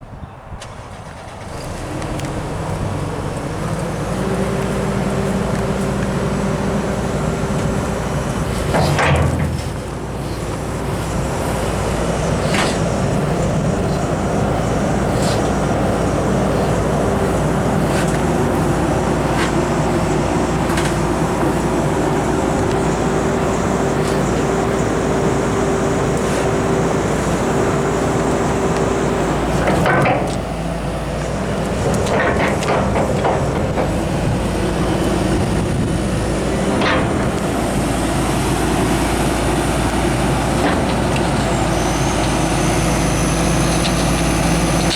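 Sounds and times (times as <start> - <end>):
diesel engine running: 0.6 - 44.9.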